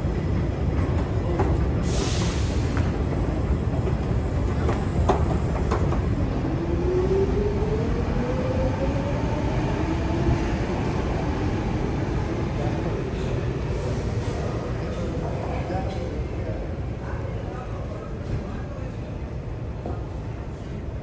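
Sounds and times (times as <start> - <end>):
metro station rumble: 0.0 - 21.0.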